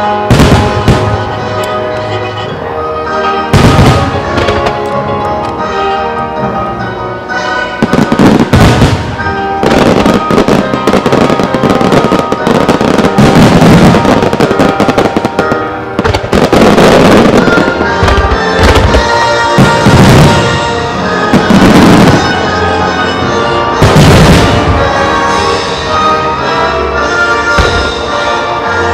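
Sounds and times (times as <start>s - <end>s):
fireworks launching and bursting: 0.0s - 2.0s, 3.5s - 5.6s, 7.8s - 26.6s, 27.3s - 28.9s
music playing: 0.0s - 28.9s.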